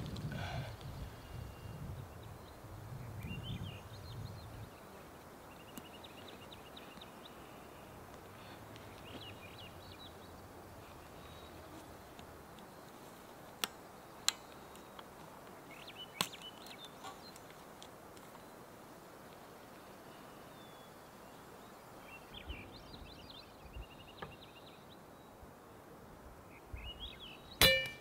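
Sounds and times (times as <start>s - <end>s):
small birds chirping and trilling: 0.1s - 18.8s, 19.6s - 25.5s, 26.4s - 27.7s.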